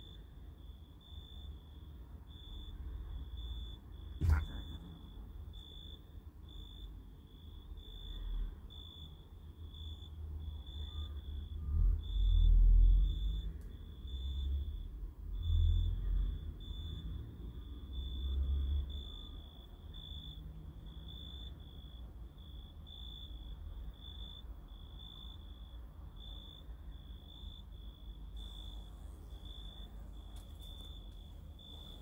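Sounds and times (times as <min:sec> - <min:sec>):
cricket chirping: 0:00.0 - 0:32.0.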